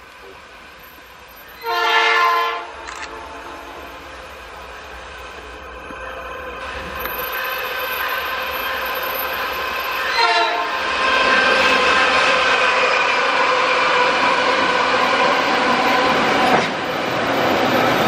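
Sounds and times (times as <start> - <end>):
diesel locomotive engines whining: 0.0 - 18.0.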